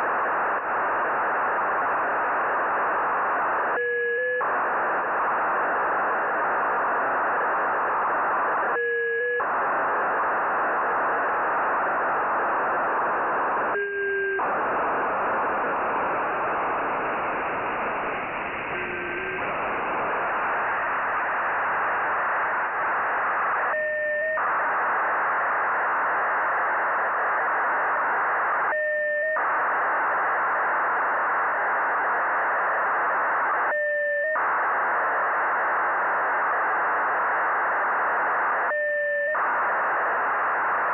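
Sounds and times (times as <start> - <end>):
radio receiver hiss: 0.0 - 40.9
satellite signal tones: 0.0 - 40.9.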